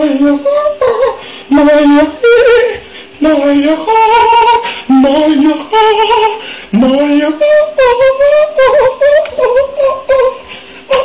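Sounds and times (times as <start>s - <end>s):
person singing wordless tune: 0.0s - 11.0s.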